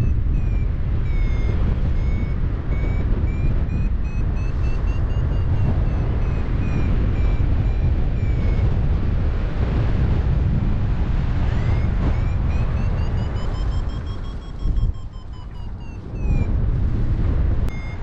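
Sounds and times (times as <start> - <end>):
variometer beeping: 0.0 - 16.8, 17.7 - 18.0
wind rush on microphone: 0.0 - 18.0.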